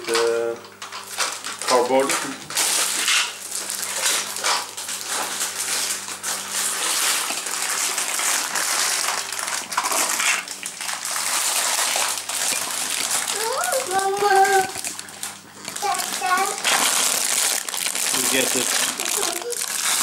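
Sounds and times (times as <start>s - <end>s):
plastic bags crinkling: 0.1s - 20.0s.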